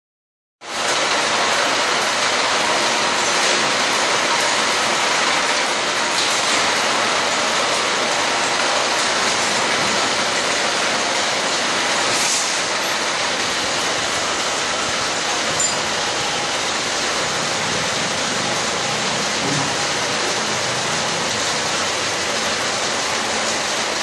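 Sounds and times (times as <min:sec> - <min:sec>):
chain conveyor running: 0:00.8 - 0:24.0.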